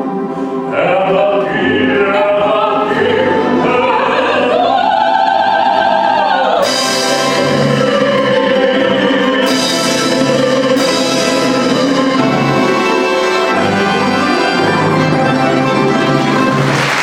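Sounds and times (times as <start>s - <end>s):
orchestra playing: 0.0s - 17.0s.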